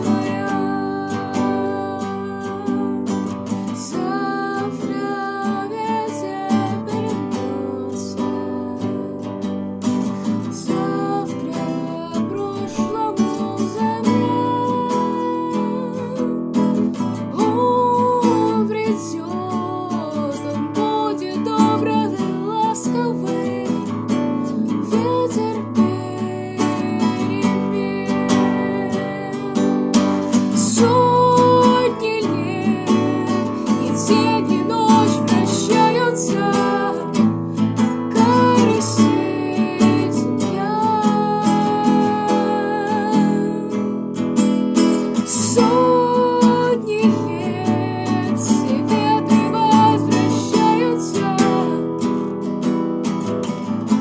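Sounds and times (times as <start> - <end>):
girl singing: 0.0 - 9.4, 10.3 - 44.0, 45.1 - 52.2
acoustic guitar strumming: 0.0 - 54.0.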